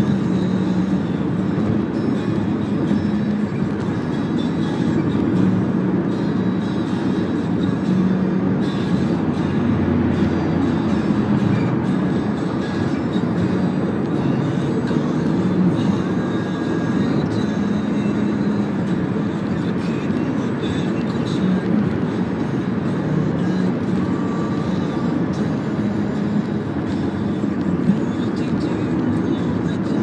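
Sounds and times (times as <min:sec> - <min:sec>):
in-cabin road and engine noise: 0:00.0 - 0:30.0.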